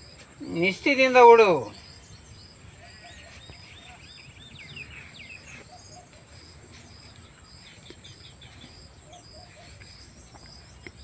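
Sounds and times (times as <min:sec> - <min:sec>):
birds chirping: 0:00.0 - 0:11.0
insects droning: 0:00.0 - 0:11.0.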